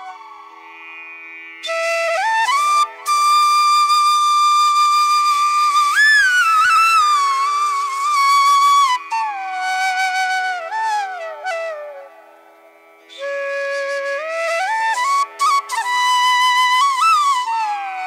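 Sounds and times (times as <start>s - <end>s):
solo flute melody: 0.0s - 0.9s, 1.6s - 18.0s.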